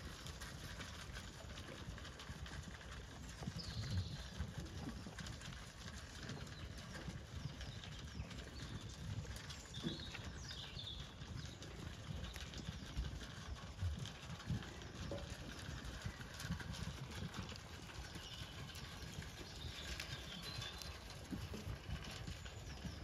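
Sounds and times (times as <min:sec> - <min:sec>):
animals crunching feed: 0:00.0 - 0:23.0.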